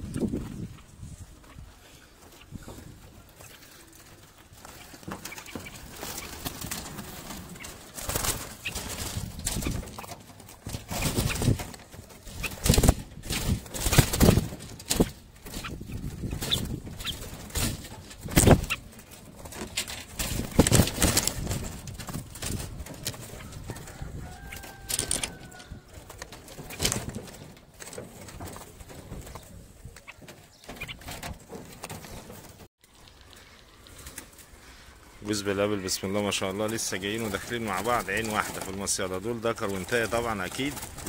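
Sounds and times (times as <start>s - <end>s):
caged birds flapping against wire: 0.0s - 41.0s.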